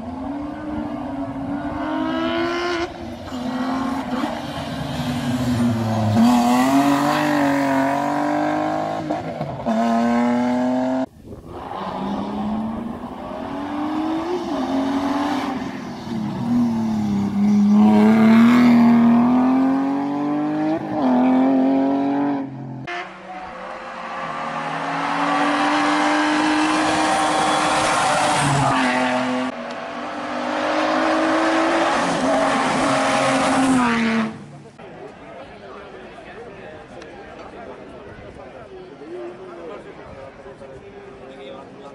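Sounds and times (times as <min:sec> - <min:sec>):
rally car engine revving: 0:00.1 - 0:34.8.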